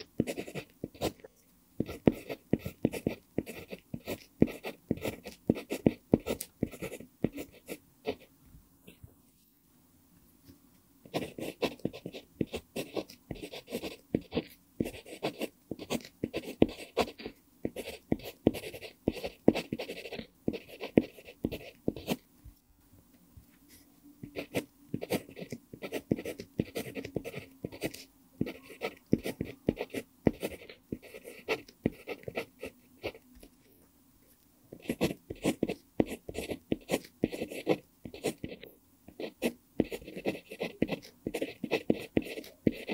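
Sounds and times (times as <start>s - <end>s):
pencil scratching on paper: 0.0s - 1.2s, 1.8s - 8.2s, 11.1s - 22.2s, 23.7s - 33.6s, 34.7s - 42.9s.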